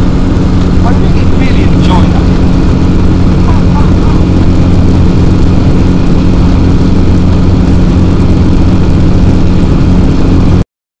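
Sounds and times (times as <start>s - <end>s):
microlight engine and propeller: 0.0s - 10.6s.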